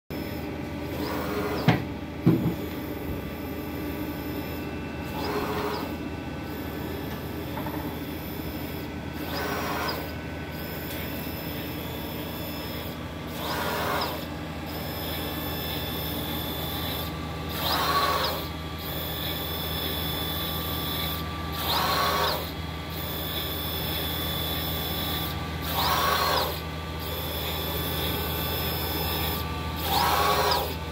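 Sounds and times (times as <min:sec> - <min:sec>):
printer low hum: 0:00.1 - 0:30.9.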